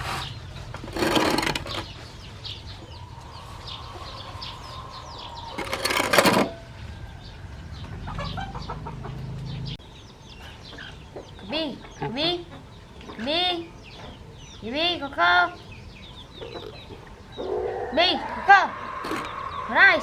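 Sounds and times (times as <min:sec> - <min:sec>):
baby birds peeping: 0:00.0 - 0:20.0.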